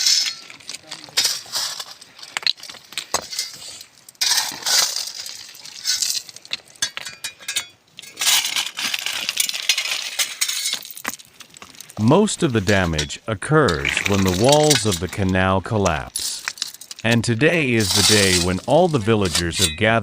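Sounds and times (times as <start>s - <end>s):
stones and gravel clinking: 0.0s - 20.0s.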